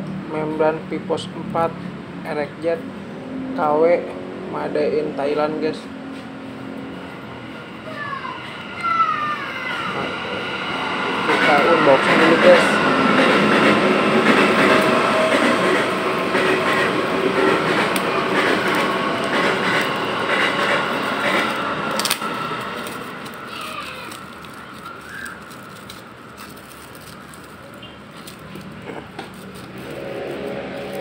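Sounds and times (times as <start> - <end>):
passing vehicle rumble with whine: 0.0 - 31.0.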